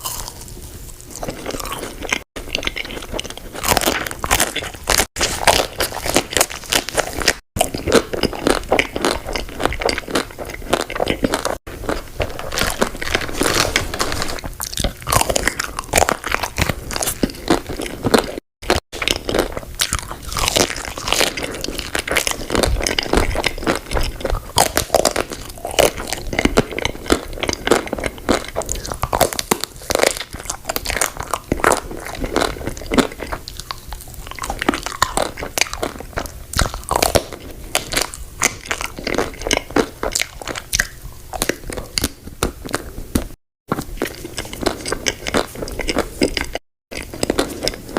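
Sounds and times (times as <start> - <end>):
crunching and chewing candy: 0.0 - 47.9.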